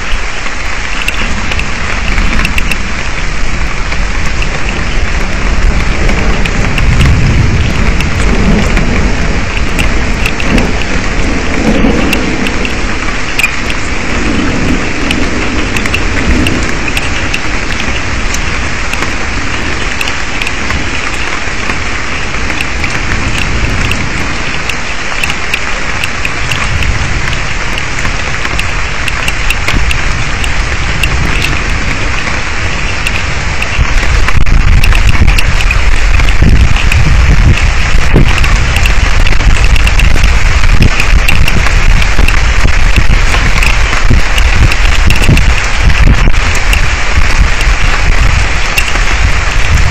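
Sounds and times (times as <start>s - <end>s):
heavy rain: 0.0s - 49.9s
raindrops tapping: 0.0s - 49.9s
thunder rumbling: 0.0s - 49.9s.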